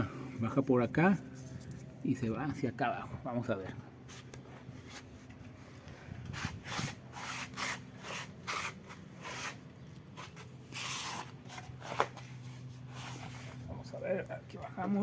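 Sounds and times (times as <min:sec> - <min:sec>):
low steady hum: 0:00.0 - 0:15.0
handling rubbing and scraping: 0:00.4 - 0:15.0.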